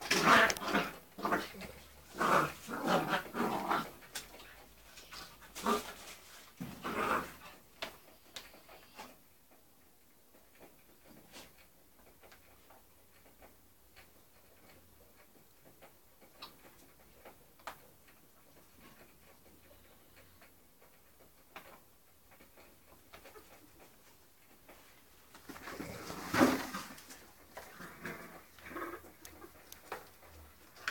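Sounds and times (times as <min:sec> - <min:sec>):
faint irregular clicks: 0:00.0 - 0:25.9, 0:26.9 - 0:30.9.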